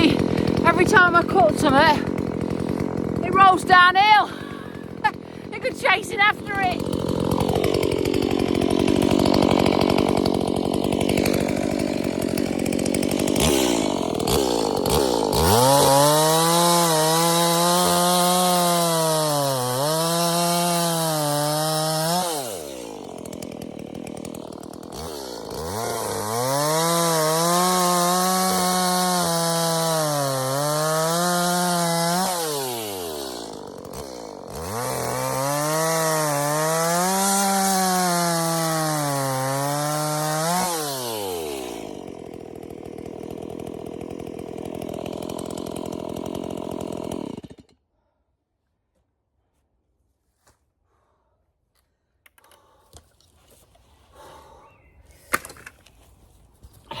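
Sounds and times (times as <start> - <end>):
chainsaw cutting wood: 0.0 - 47.8, 52.3 - 56.0.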